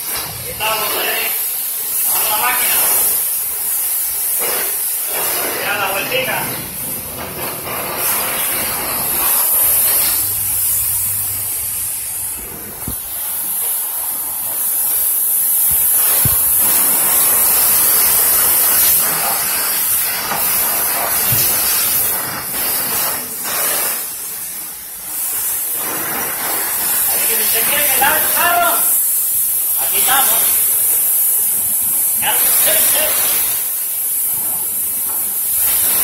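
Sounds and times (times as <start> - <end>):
pressure washer spraying car: 0.0 - 36.0.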